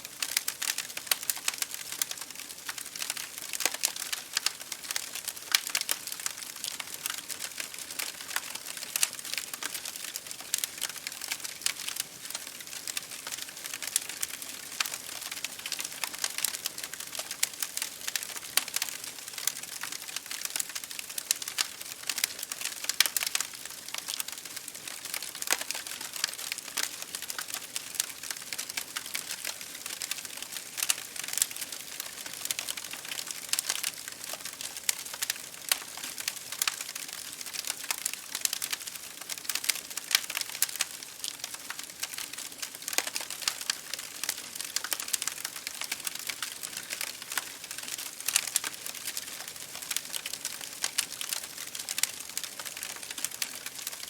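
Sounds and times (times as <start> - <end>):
rain on a window pane: 0.0 - 54.0
wood fire crackling: 0.1 - 54.0.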